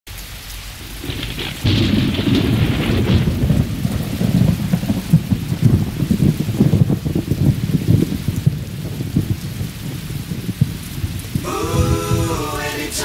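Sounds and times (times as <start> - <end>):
rain hiss: 0.1 - 13.0
rumbling thunder: 0.8 - 12.6.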